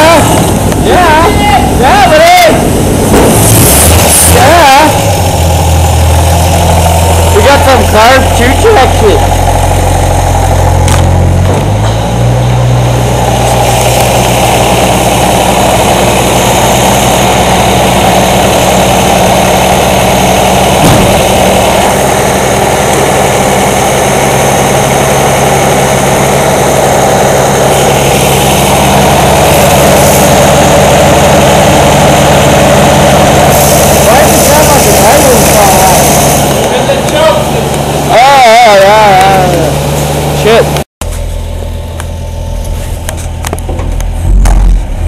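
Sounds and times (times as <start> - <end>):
truck engine idling: 0.0 - 45.0.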